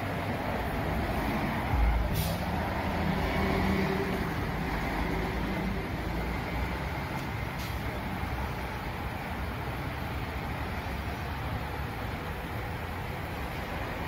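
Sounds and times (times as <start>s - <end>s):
cars rumbling on road: 0.0s - 14.0s
engine hum: 0.0s - 14.0s.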